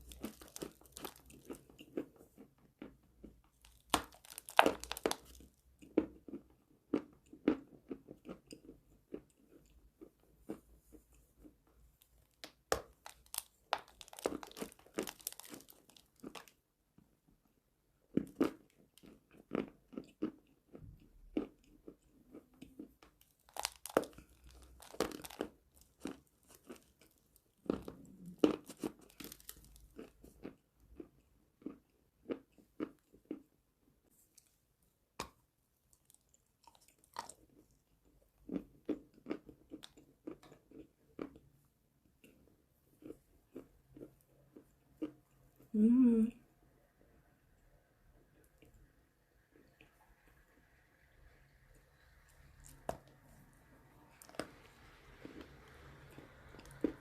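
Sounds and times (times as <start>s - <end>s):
chalk crunching and chewing: 0.0s - 11.6s, 12.2s - 16.6s, 18.1s - 33.5s, 35.2s - 41.5s, 42.1s - 45.7s, 52.0s - 57.0s.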